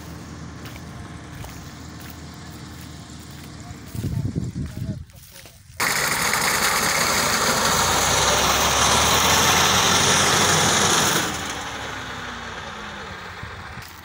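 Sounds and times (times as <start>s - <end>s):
tractor engine under load: 0.0s - 14.0s.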